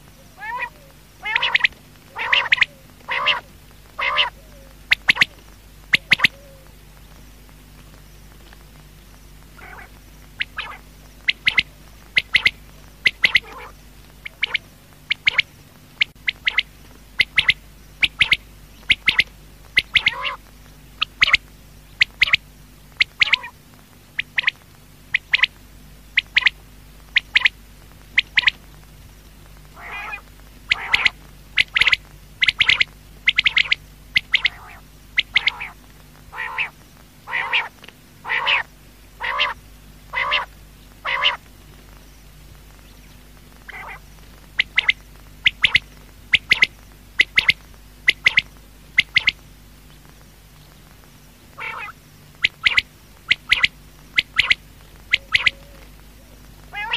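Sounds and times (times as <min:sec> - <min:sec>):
quail calling: 0:00.0 - 0:06.7, 0:09.6 - 0:22.4, 0:23.0 - 0:23.6, 0:24.2 - 0:25.6, 0:26.2 - 0:28.6, 0:29.7 - 0:41.5, 0:43.6 - 0:49.4, 0:51.5 - 0:56.9
steady low hum: 0:00.0 - 0:56.9.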